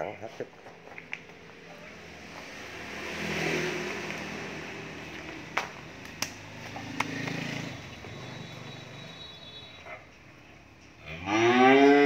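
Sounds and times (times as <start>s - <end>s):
vehicle engine droning: 0.7s - 11.7s.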